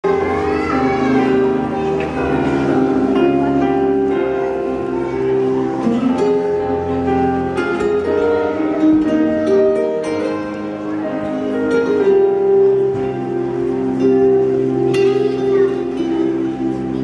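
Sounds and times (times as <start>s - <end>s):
melody of held notes: 0.0s - 17.0s
plucked string notes: 0.0s - 17.0s.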